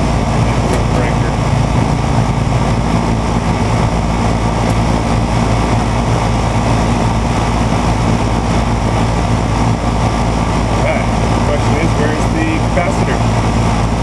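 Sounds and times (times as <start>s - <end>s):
rushing noise: 0.0s - 11.9s
machinery droning: 0.0s - 14.0s.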